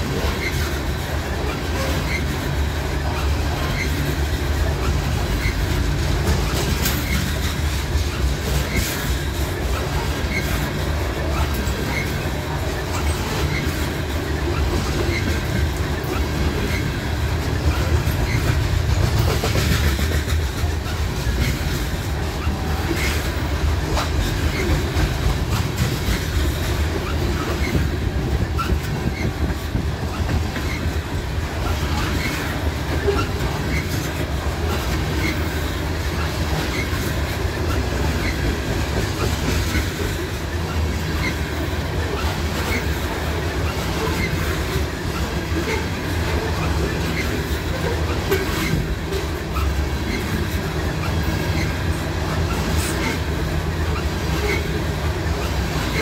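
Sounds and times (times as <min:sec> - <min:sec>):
train wheels rumbling on rail: 0:00.0 - 0:56.0
wheels clicking over rail joints: 0:00.0 - 0:56.0.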